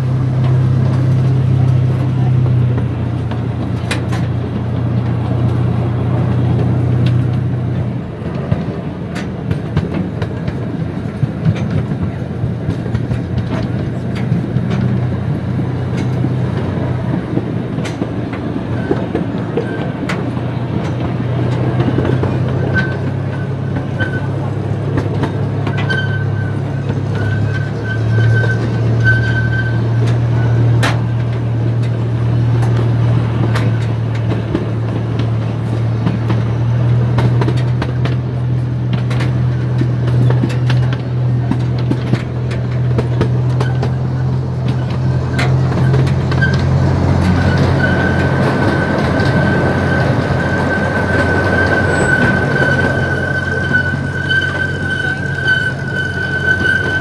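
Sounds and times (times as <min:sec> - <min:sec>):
train motor drone: 0:00.0 - 0:57.0
train rolling noise: 0:00.0 - 0:57.0
wheels clicking over rail joints: 0:00.0 - 0:57.0.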